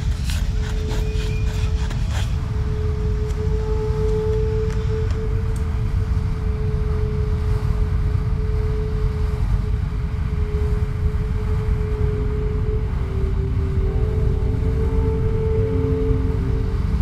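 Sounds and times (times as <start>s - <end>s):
steady held note: 0.0s - 9.7s, 10.4s - 17.0s
deep rumbling drone: 0.0s - 17.0s.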